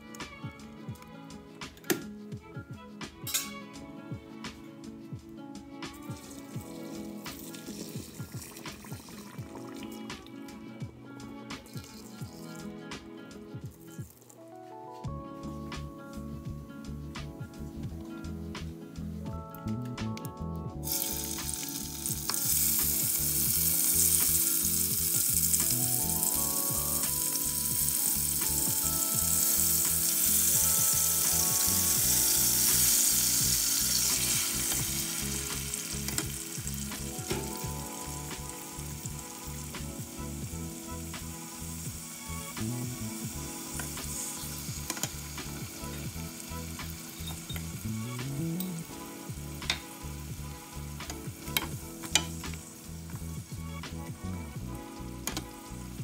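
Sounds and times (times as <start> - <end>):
tomatoes sizzling in oil: 3.3 - 14.4, 20.7 - 56.0.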